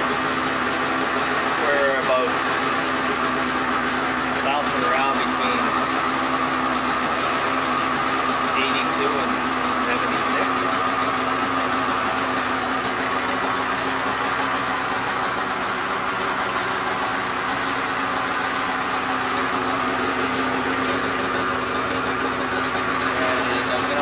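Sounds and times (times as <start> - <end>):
snowmobile engine idling: 0.0 - 24.0.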